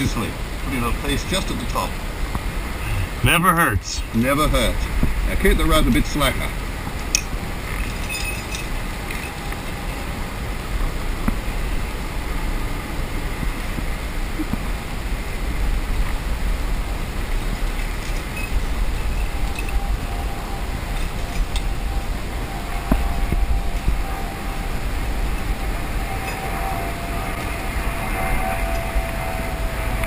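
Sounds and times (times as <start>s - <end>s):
rushing outdoor noise with rumble: 0.0s - 30.0s.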